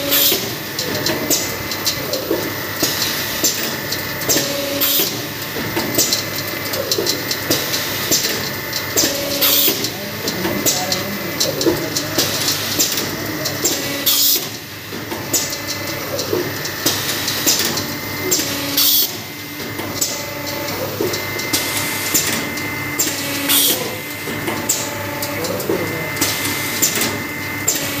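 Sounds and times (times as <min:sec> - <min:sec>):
machine hissing: 0:00.0 - 0:28.0
steady mechanical hum: 0:00.0 - 0:28.0.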